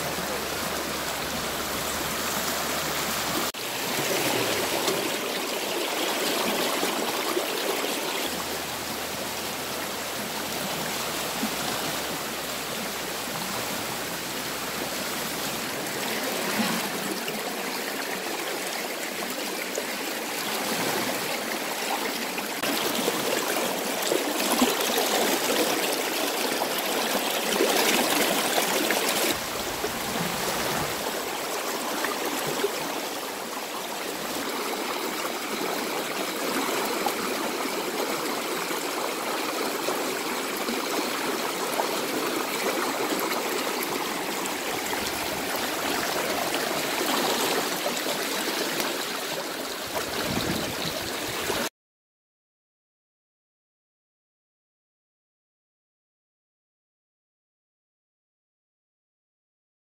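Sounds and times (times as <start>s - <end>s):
river rushing over rapids: 0.0s - 19.4s, 20.2s - 37.9s, 38.6s - 51.4s.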